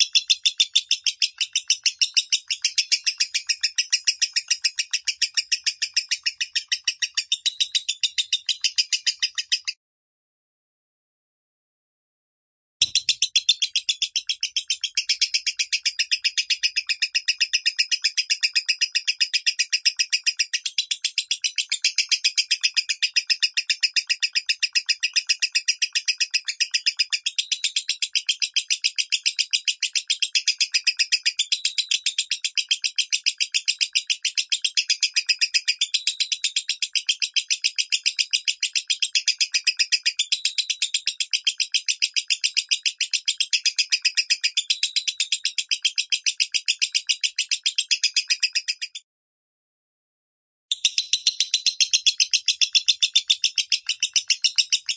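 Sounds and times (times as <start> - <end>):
lovebird chirping: 0.0 - 9.8, 12.8 - 49.0, 50.7 - 54.9.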